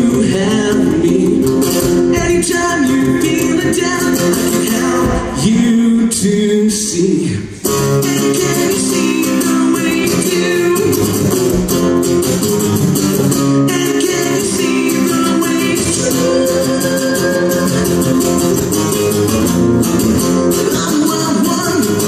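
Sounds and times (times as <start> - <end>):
man singing rock song: 0.0 - 11.8, 13.3 - 18.7, 20.2 - 22.0
acoustic guitar strumming: 0.0 - 22.0.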